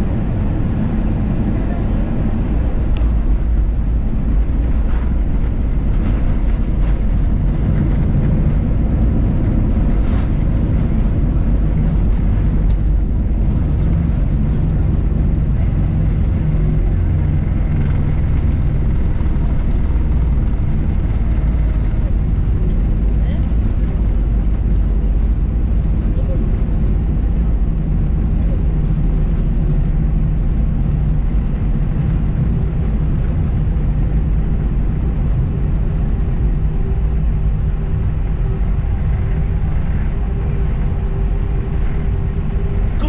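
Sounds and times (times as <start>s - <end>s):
airliner cabin rumble: 0.0s - 43.0s.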